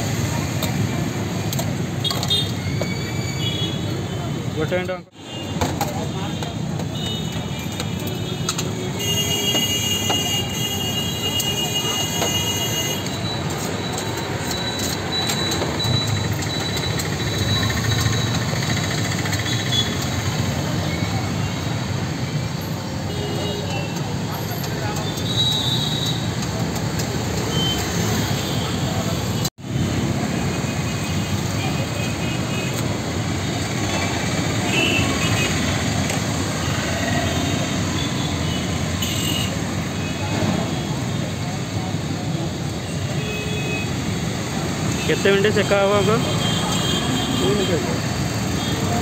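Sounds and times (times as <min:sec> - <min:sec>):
road traffic din: 0:00.0 - 0:49.0.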